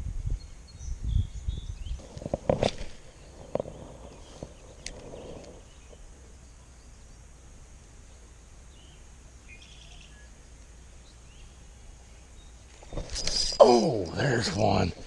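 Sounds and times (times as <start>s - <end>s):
faint bird chirps: 0.2s - 2.1s, 3.1s - 14.4s.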